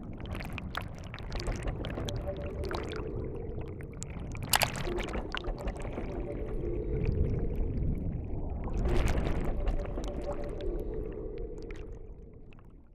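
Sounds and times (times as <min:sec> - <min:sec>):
underwater rumble and bubbles: 0:00.0 - 0:12.9.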